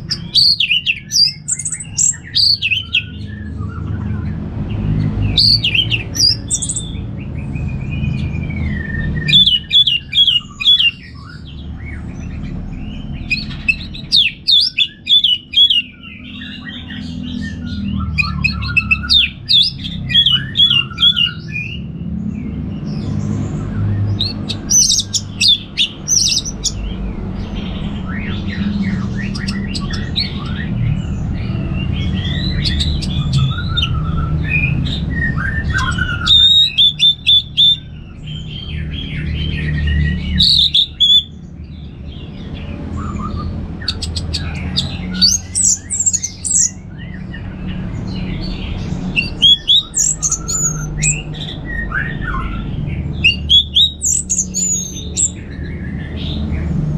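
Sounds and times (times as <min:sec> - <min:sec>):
thrush singing: 0:00.0 - 0:41.4, 0:42.4 - 0:56.6.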